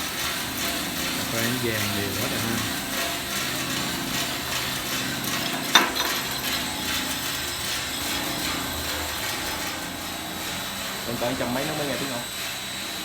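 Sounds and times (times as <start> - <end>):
roaster drum tumbling beans: 0.0 - 13.0.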